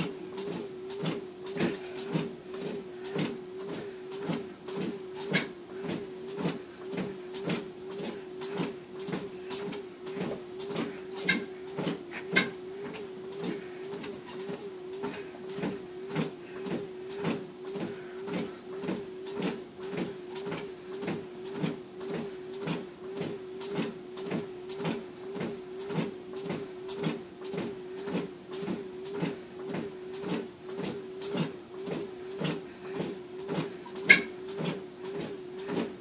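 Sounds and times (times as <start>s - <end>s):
footsteps on treadmill belt: 0.0s - 36.0s
treadmill motor whine: 0.0s - 36.0s.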